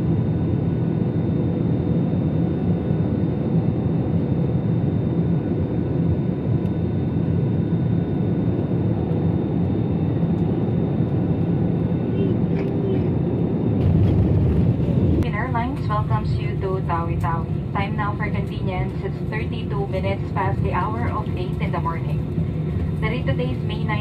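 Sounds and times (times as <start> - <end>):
airliner cabin engine noise: 0.0 - 24.0.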